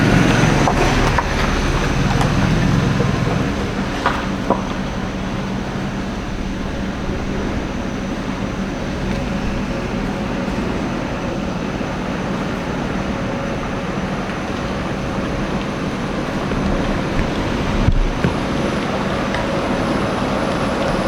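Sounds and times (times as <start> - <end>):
mechanical rumble with hiss: 0.0 - 21.0.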